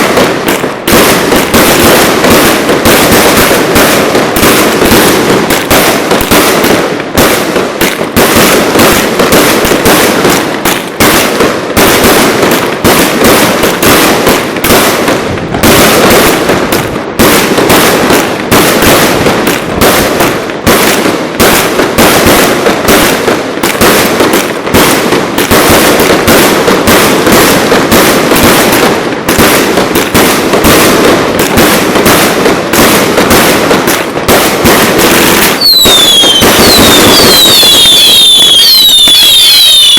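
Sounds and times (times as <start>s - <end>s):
firecracker bangs: 0.0s - 39.9s.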